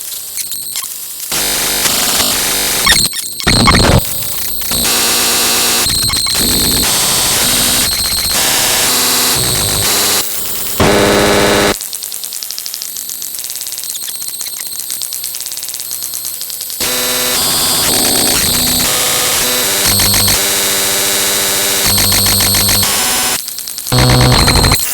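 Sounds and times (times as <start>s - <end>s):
harsh electronic static and buzzing: 0.3s - 11.9s, 12.6s - 24.9s.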